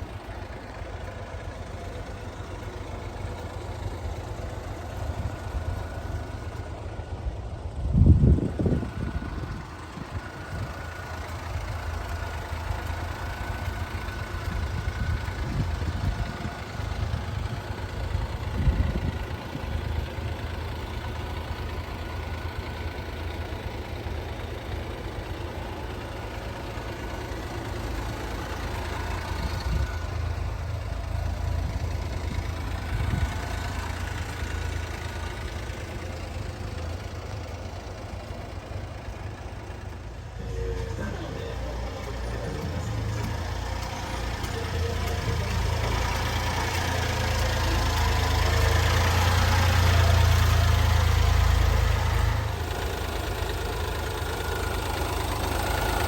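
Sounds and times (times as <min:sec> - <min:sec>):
small truck engine idling: 0:00.0 - 0:56.0.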